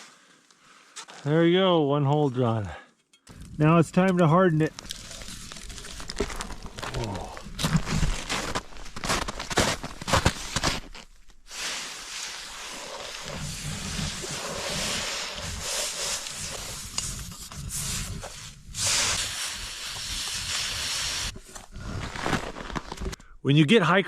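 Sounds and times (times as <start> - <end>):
hot steel sizzling in snow: 3.6 - 23.0.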